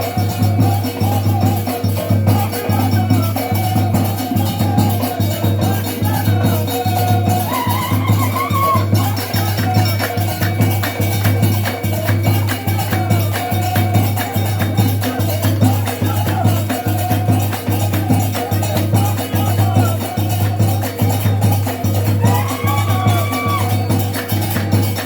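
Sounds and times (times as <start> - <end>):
fast percussion beat: 0.0 - 25.0.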